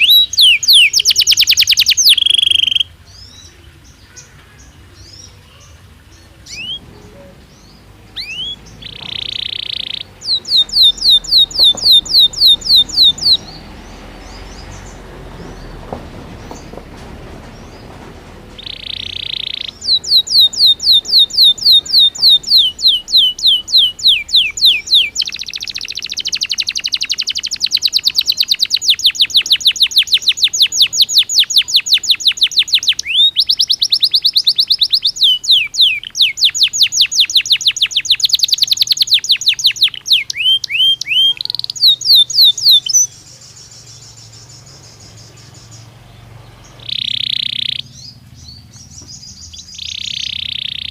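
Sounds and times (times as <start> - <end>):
canary singing rapid trills: 0.0 - 50.9.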